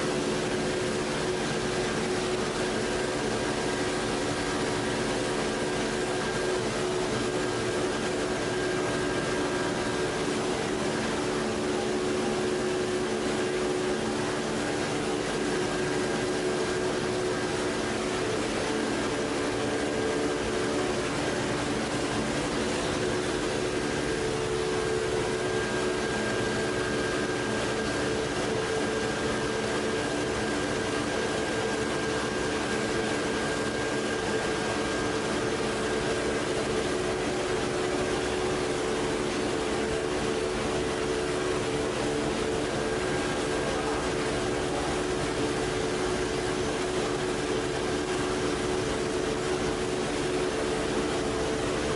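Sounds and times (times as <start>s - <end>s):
machinery hum with high whine: 0.0s - 51.9s.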